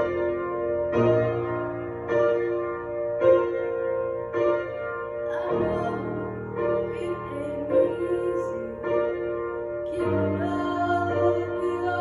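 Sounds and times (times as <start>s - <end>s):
upright piano chords: 0.0s - 12.0s.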